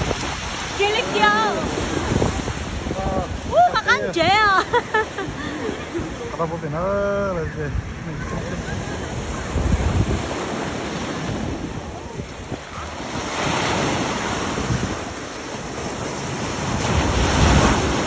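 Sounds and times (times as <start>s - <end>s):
small waves breaking on beach: 0.0s - 18.0s
wind buffeting microphone: 0.0s - 18.0s.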